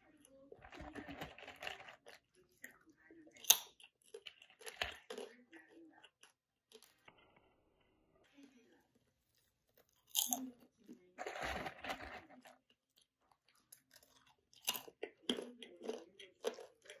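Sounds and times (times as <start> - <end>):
person crunching rice cracker: 0.6 - 2.8, 3.4 - 7.8, 9.3 - 10.5, 11.2 - 17.0.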